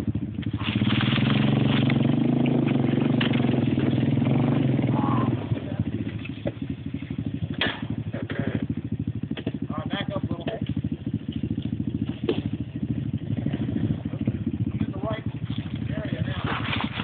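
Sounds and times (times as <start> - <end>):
atv engine revving and idling: 0.0 - 17.0.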